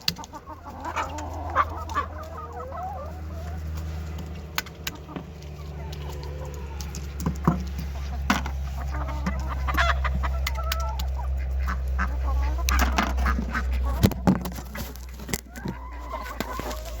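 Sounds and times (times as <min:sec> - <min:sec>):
poultry calling: 0:00.0 - 0:17.0.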